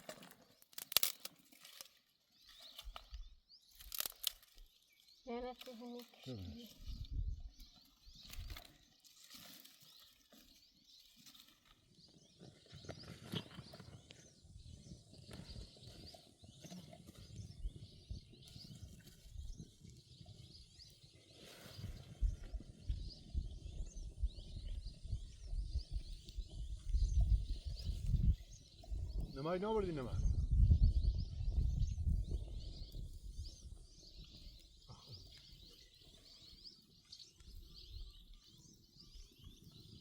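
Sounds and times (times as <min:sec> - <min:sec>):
high chirps of birds or insects: 0:00.0 - 0:40.0.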